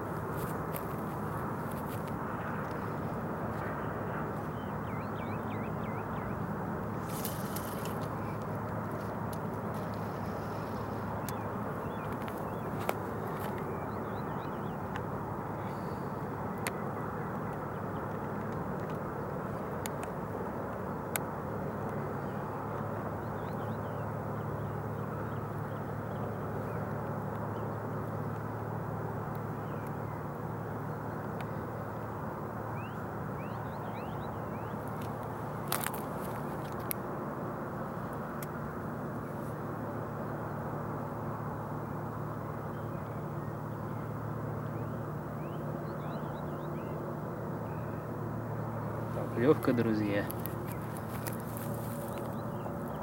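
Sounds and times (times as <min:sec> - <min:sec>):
low hum and rumble: 0:00.0 - 0:53.0
outdoor background noise: 0:00.0 - 0:53.0.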